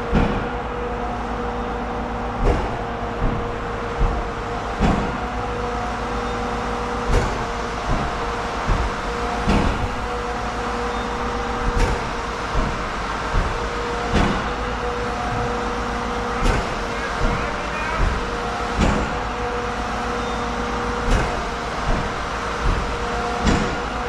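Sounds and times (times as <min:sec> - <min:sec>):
machinery whine: 0:00.0 - 0:24.0.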